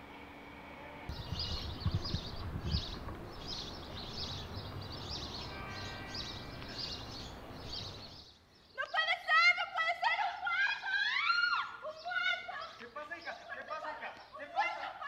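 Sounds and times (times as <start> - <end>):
small birds chirping: 1.1 - 9.6, 10.8 - 15.0.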